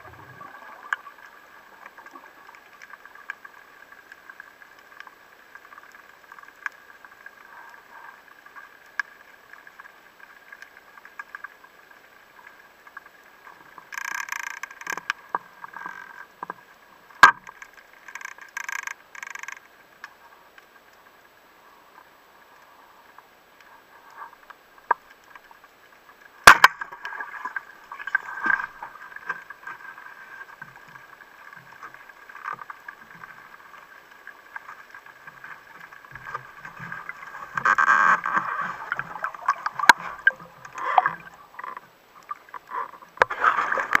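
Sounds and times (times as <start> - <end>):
water gurgling and sloshing: 0.0 - 44.0.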